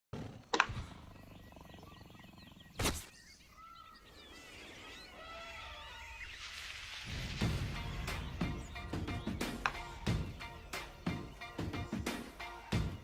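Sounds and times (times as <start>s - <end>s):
birds chirping and twittering: 0.2s - 13.0s.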